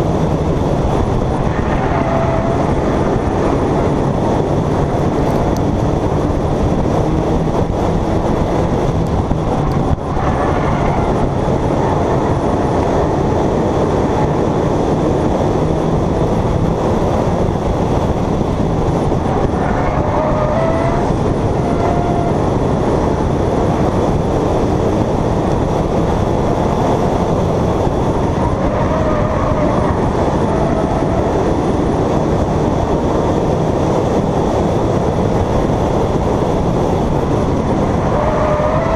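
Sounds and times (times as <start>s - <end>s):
race car engine rumble: 0.0s - 38.9s.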